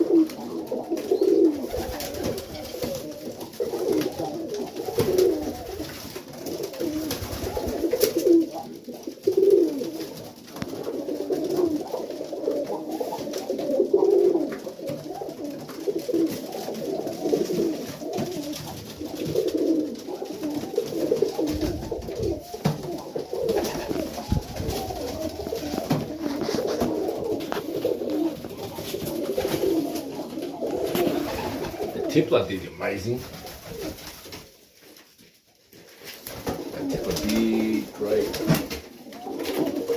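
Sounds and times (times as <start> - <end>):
pigeons cooing: 0.0 - 34.5, 36.2 - 39.9.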